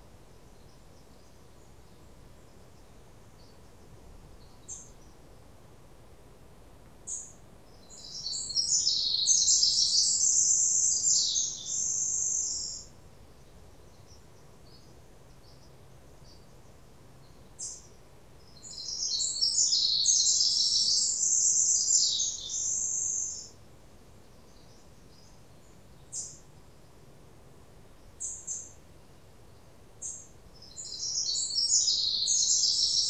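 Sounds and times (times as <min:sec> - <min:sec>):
songbird singing rapid song: 0:00.0 - 0:05.8, 0:07.0 - 0:33.0.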